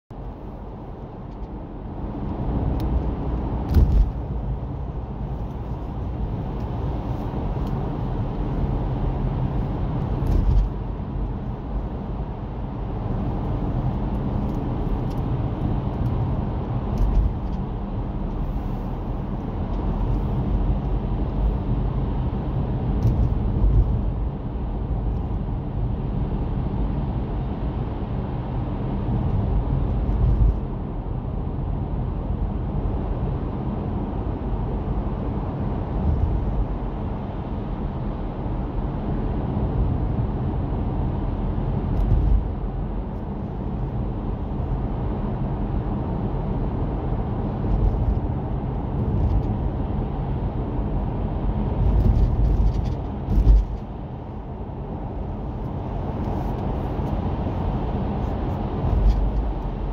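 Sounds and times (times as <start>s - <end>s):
road and engine noise: 0.1s - 59.9s.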